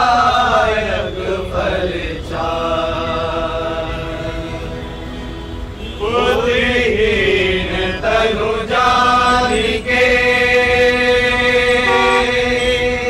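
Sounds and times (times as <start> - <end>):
man singing devotional chant: 0.0 - 5.1, 5.8 - 13.0.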